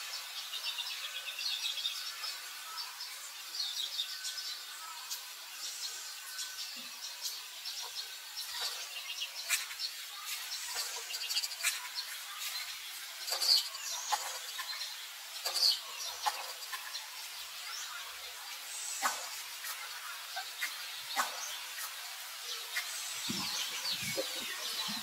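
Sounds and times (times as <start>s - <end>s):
steady high hiss: 0.0s - 25.0s.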